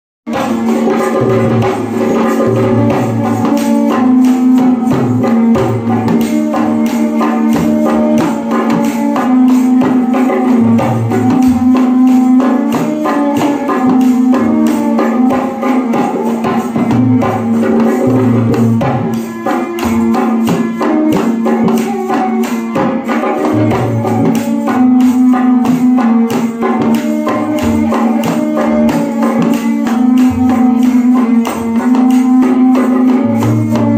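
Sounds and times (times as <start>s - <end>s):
hand drum beat: 0.3s - 33.9s.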